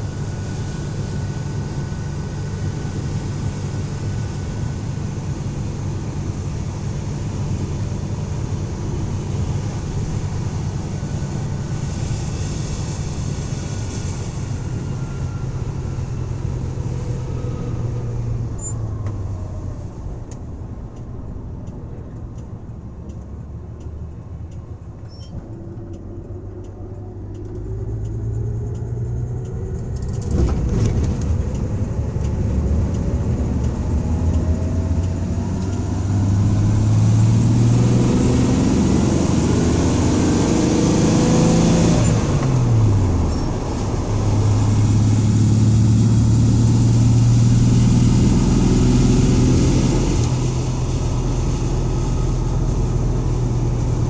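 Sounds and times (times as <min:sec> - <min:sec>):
van engine accelerating hard: 0:00.0 - 0:54.0.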